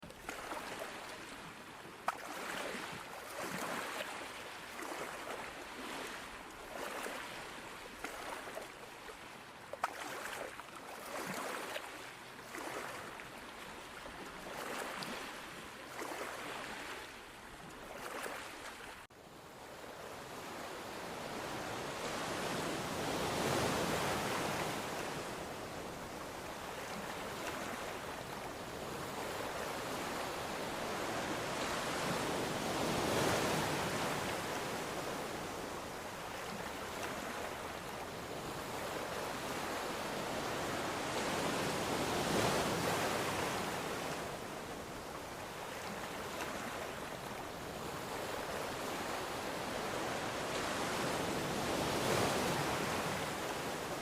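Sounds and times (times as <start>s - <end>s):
ocean waves washing ashore: 0.0s - 54.0s.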